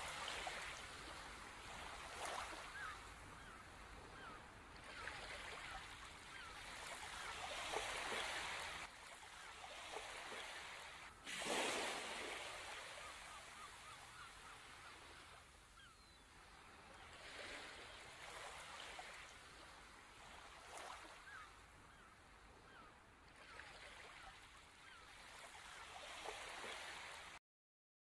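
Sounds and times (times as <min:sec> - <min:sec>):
faint bird calls: 0:00.0 - 0:08.6, 0:12.2 - 0:27.2
faint ocean surf: 0:00.0 - 0:27.4.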